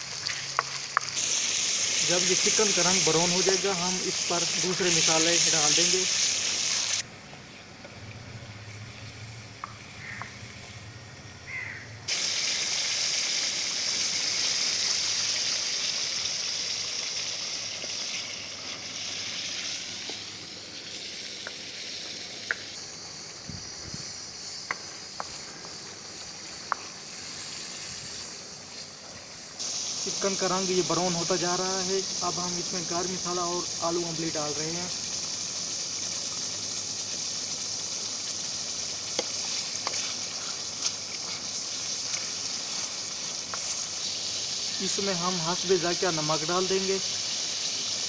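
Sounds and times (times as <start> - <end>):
chicken frying in hot oil: 0.0 - 7.1, 8.2 - 10.6, 11.5 - 48.0.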